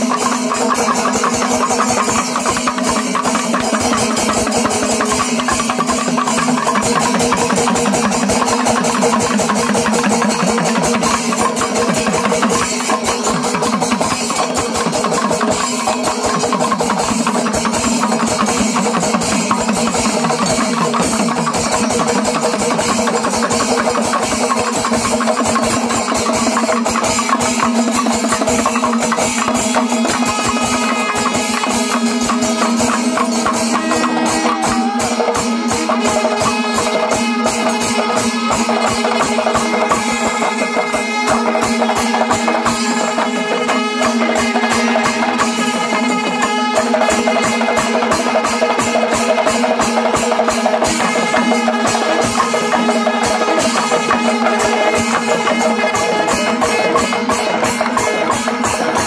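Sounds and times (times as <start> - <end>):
cymbals: 0.0 - 59.0
drums in fast strokes: 0.0 - 59.0.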